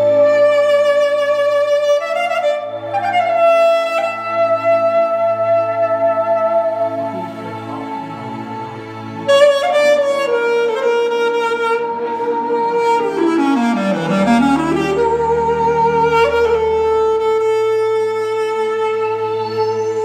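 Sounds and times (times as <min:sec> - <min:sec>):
clarinet melody: 0:00.0 - 0:20.0
synthesizer keyboard backing: 0:00.0 - 0:20.0.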